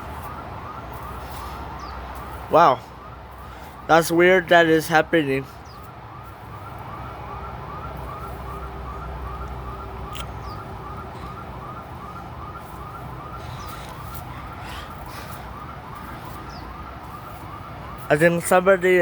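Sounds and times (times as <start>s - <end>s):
faint whooping alarm siren: 0.0s - 19.0s.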